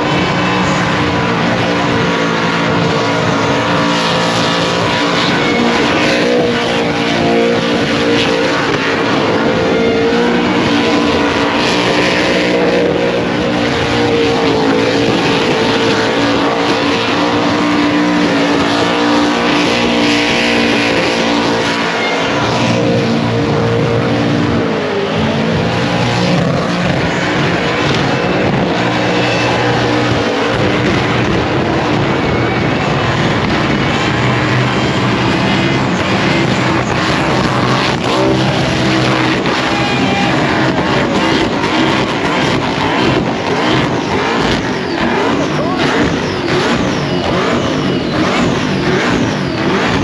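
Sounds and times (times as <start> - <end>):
car engine revving high: 0.0 - 50.0.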